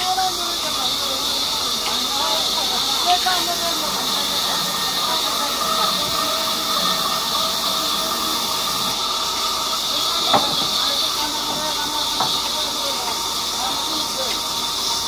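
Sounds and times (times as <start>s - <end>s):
band saw cutting wood: 0.0s - 15.0s.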